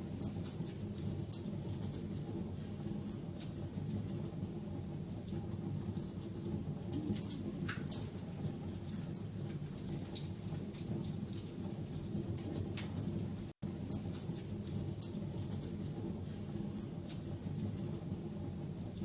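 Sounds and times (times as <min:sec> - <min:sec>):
fire crackles and pops: 0:00.0 - 0:19.0
wood fire roaring: 0:00.0 - 0:19.0.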